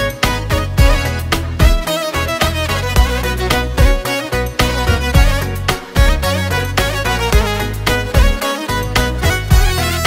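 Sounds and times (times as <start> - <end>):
instrumental music with a beat: 0.0 - 10.0.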